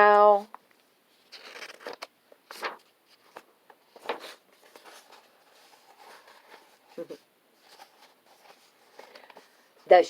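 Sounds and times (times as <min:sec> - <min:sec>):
book pages turning: 0:01.2 - 0:09.6
paper rustling: 0:01.2 - 0:09.6.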